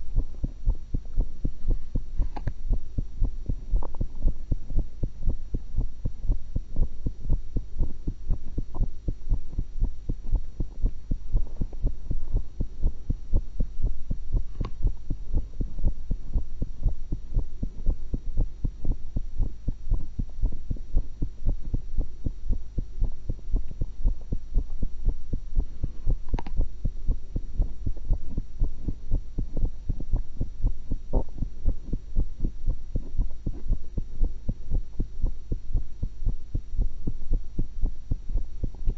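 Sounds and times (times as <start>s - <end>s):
heartbeat through stethoscope: 0.0s - 38.9s.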